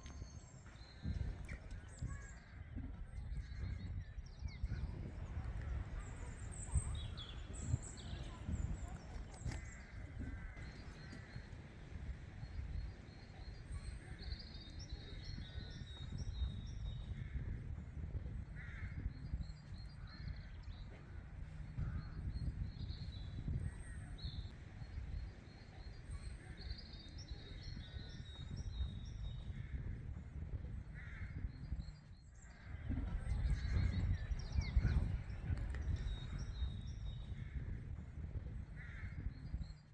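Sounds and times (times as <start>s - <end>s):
steady low rumble: 0.0s - 39.9s
wild birds calling: 0.0s - 39.9s.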